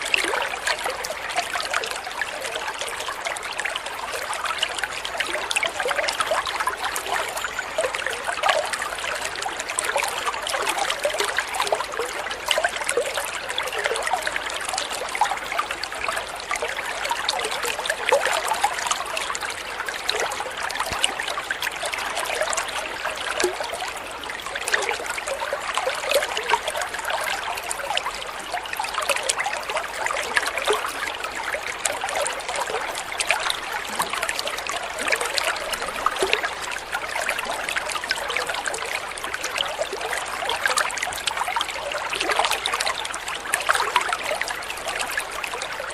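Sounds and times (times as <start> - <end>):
water trickling and splashing: 0.0 - 45.9.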